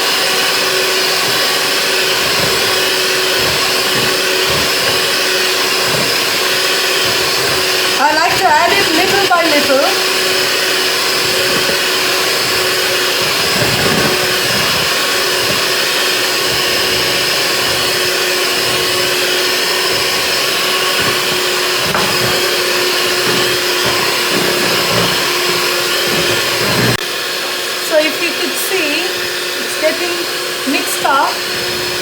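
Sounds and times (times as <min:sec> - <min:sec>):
electric mixer motor humming: 0:00.0 - 0:32.0.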